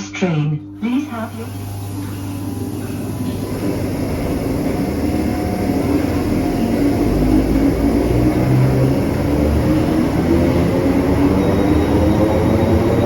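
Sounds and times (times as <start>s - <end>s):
electric train motors whining: 0.7s - 13.0s.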